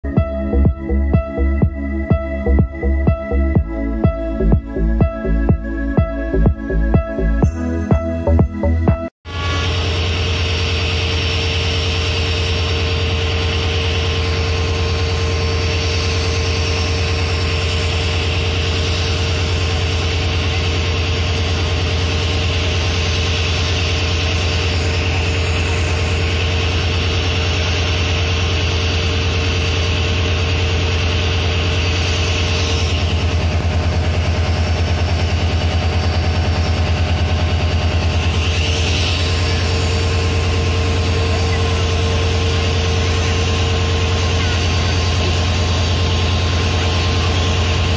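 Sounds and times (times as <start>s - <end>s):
locomotive diesel engine droning: 0.0s - 47.9s.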